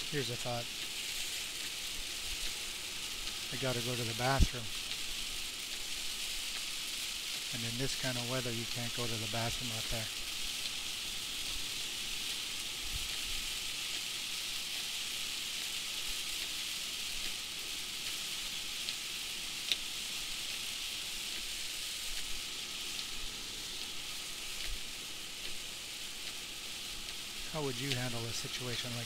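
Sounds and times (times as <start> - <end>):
heavy rain on vehicle roof: 0.0 - 29.0.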